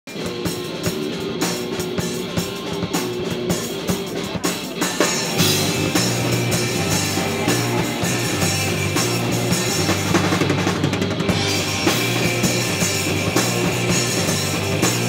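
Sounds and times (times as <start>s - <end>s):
punk band playing: 0.1s - 15.0s.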